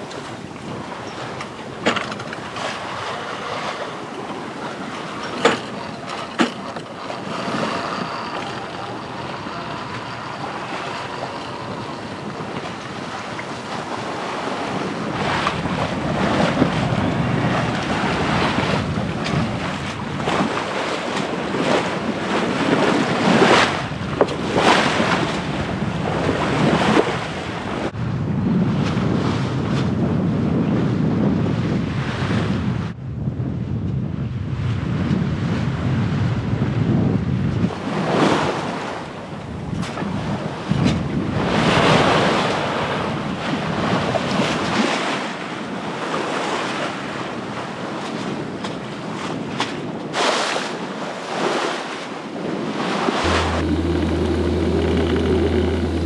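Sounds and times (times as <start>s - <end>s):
water splashing along boat hull: 0.0s - 27.9s, 37.6s - 56.0s
wind buffeting microphone: 0.0s - 46.2s, 52.4s - 56.0s.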